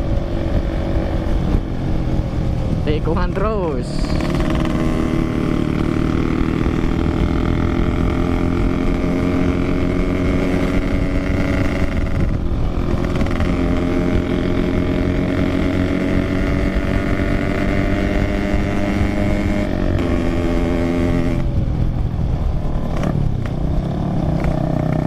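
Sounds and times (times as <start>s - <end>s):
two-stroke motorcycle engine running: 0.0s - 25.0s.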